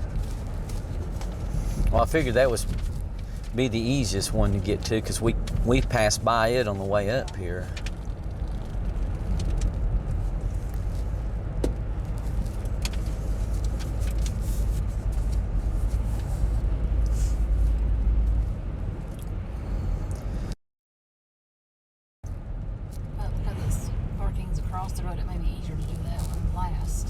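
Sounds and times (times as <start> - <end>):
car engine and tyre rumble: 0.0 - 20.6, 22.2 - 27.0.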